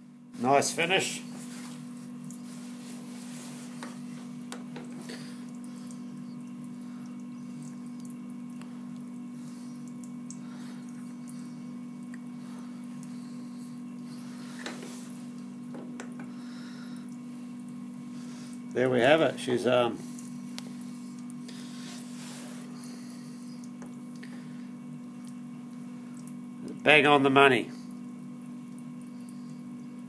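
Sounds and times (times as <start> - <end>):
motor hum: 0.0 - 30.0
coolant trickling and splashing: 0.1 - 30.0.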